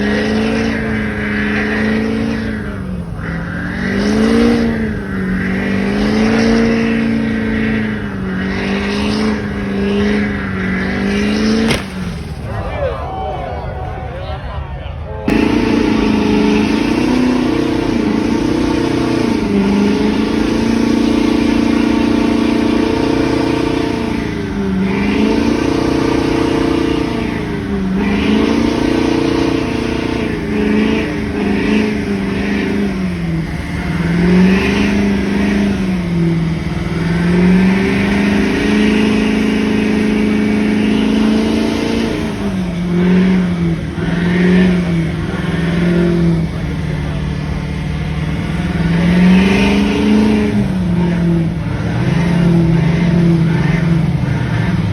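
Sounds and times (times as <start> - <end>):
truck engine revving high: 0.0 - 54.9.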